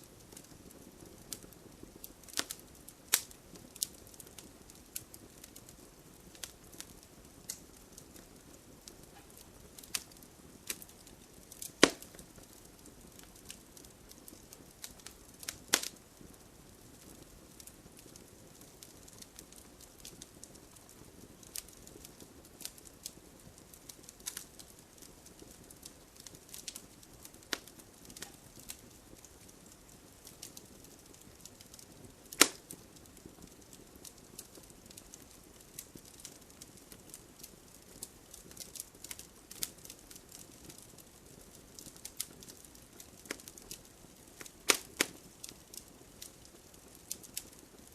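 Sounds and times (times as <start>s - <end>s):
soft low hiss: 0.0s - 47.9s
wood fire crackling: 0.0s - 47.9s
loud fire pops: 0.2s - 47.9s.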